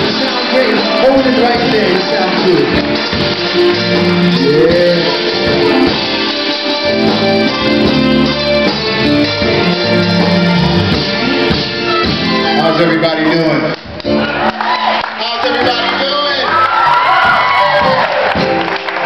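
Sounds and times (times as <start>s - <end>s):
electric guitar and band: 0.0s - 19.0s.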